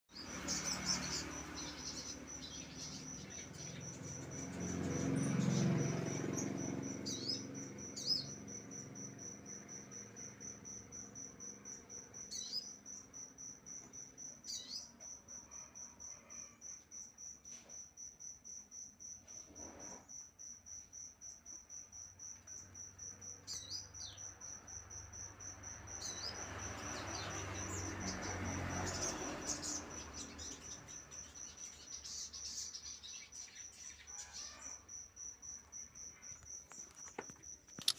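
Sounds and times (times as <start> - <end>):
cricket trilling: 0.1 - 37.9.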